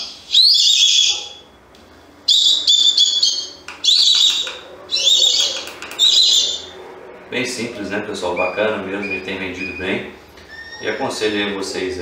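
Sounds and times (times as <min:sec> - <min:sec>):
recorded bird call through speaker: 0:00.0 - 0:01.6, 0:02.3 - 0:06.8, 0:08.2 - 0:11.9.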